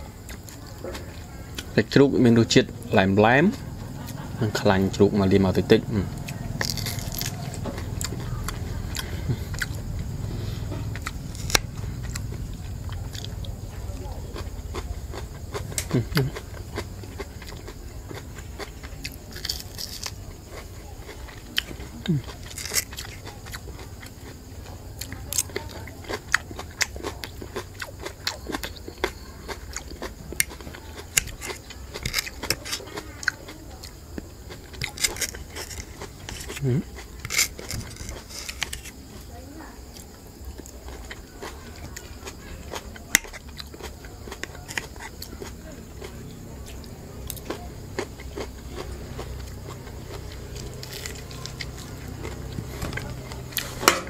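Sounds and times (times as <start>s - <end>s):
person chewing ribs: 0.0s - 54.0s
steady low hum: 0.0s - 54.0s.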